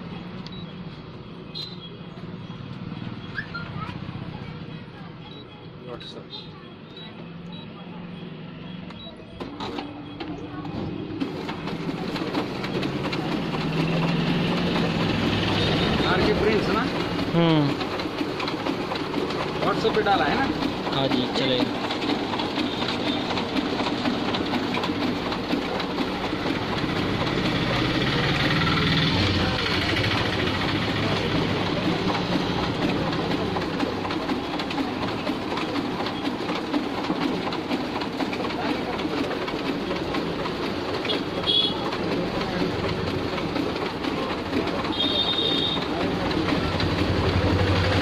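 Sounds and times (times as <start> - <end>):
copier clattering clicks: 8.9 - 48.0.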